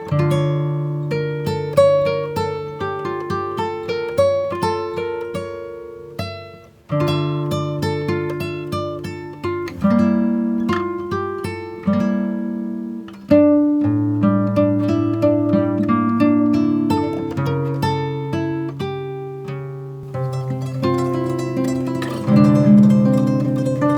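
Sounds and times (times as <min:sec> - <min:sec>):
acoustic guitar plucked notes: 0:00.0 - 0:23.9.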